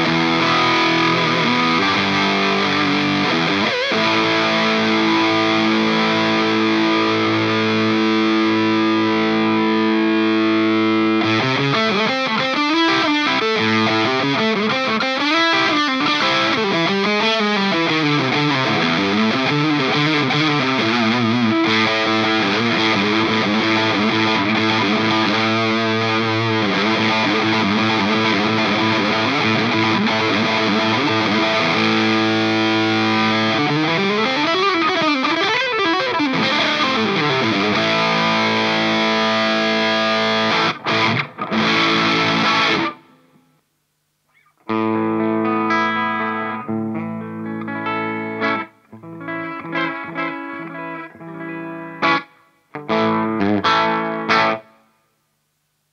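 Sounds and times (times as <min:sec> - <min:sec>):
distorted electric guitar: 0:00.0 - 0:55.6.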